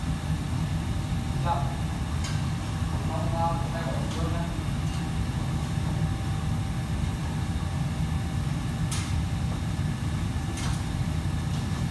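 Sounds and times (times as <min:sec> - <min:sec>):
kitchen fans and burners rumbling: 0:00.0 - 0:11.9.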